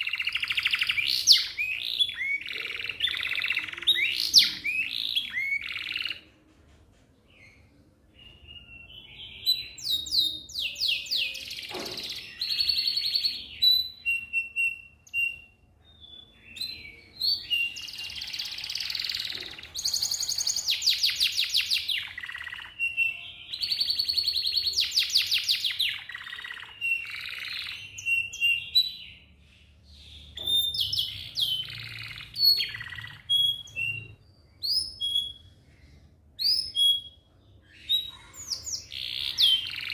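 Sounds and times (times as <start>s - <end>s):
canary singing trills: 0.0s - 6.3s, 7.4s - 39.9s.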